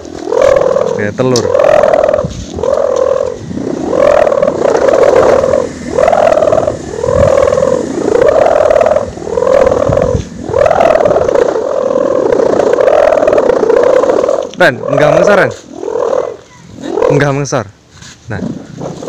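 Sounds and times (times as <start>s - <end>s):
kite hummers humming: 0.0s - 19.0s.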